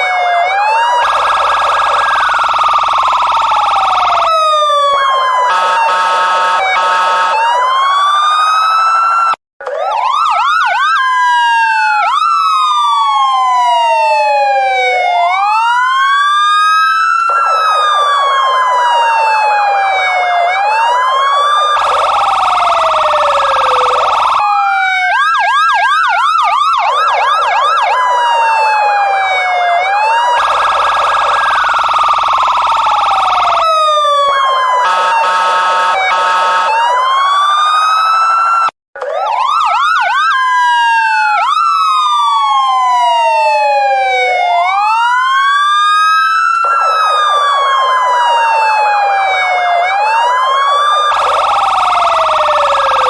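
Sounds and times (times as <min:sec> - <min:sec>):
police car siren: 0:00.0 - 0:53.0.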